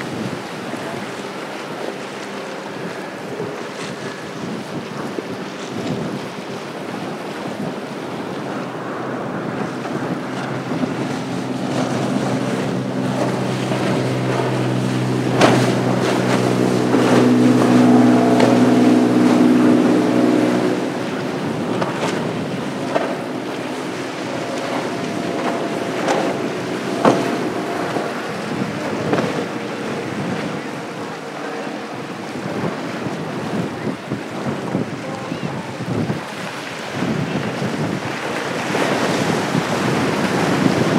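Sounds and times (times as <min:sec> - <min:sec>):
motorboat engine droning: 0:00.0 - 0:40.9
rushing water: 0:00.0 - 0:40.9
wind on the microphone: 0:00.0 - 0:40.9.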